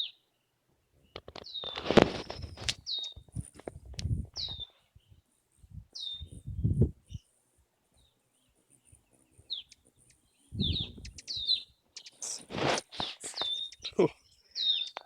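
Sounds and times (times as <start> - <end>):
hummingbirds chirping: 0.0 - 3.5, 4.3 - 15.0.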